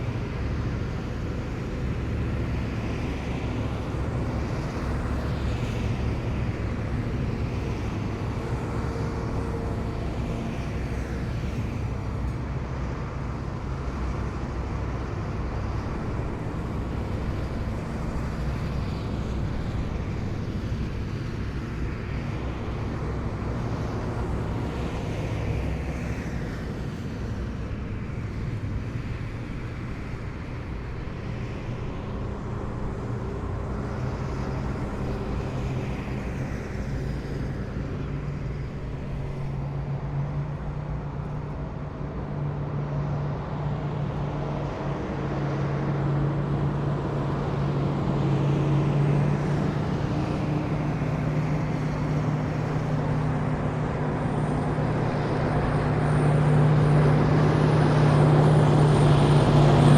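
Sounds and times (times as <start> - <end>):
heavy diesel vehicles driving past: 0.0 - 59.9.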